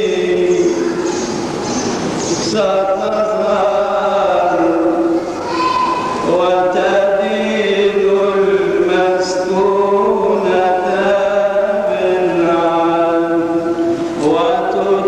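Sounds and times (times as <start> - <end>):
man chanting: 0.0 - 1.1, 2.3 - 5.3, 6.2 - 15.0.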